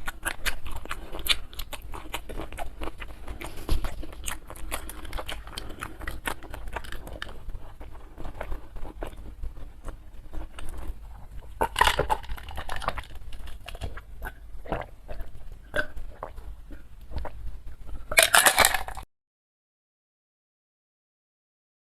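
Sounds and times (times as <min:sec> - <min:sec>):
wet mouth clicks: 0:00.0 - 0:18.4
chewing and crunching crisp food: 0:00.0 - 0:19.0.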